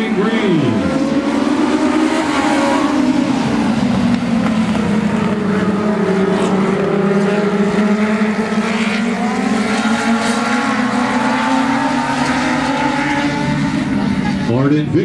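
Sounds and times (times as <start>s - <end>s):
race car engines racing: 0.0s - 15.0s.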